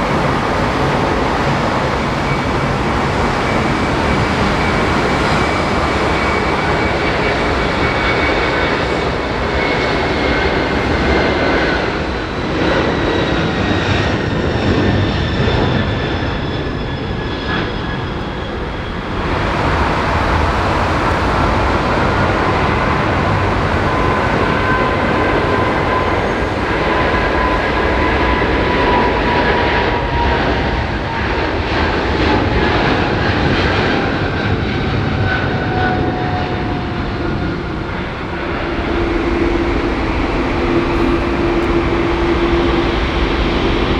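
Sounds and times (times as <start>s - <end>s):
jet engines with falling whine: 0.0s - 43.9s.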